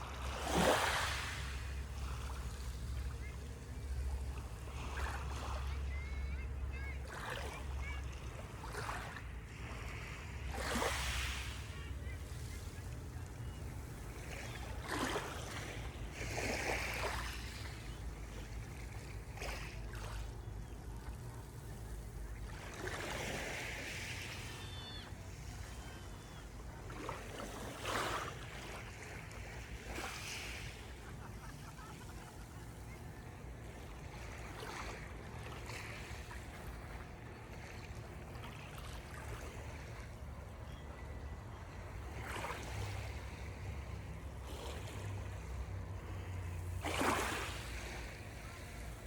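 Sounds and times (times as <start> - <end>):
sea waves breaking on shore: 0.0 - 49.0.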